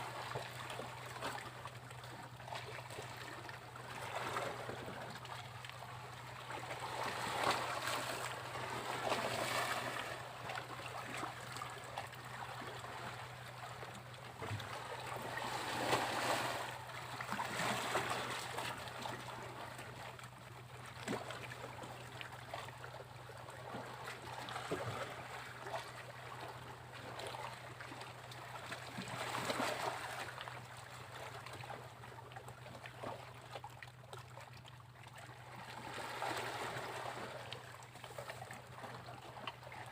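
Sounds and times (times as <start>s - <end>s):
sea waves breaking on a beach: 0.0s - 20.2s, 23.4s - 31.6s, 35.4s - 39.9s.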